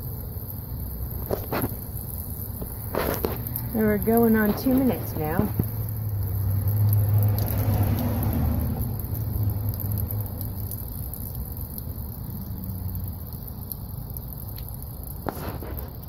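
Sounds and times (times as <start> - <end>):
water pouring and splashing on ground: 0.0 - 16.0.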